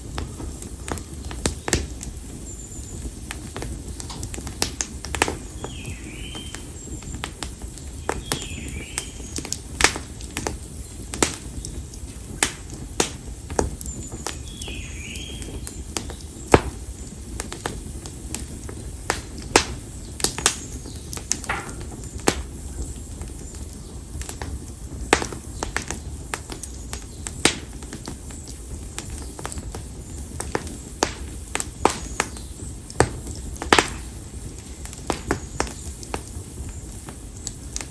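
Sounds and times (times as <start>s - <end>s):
campfire crackling and popping: 0.0s - 37.9s.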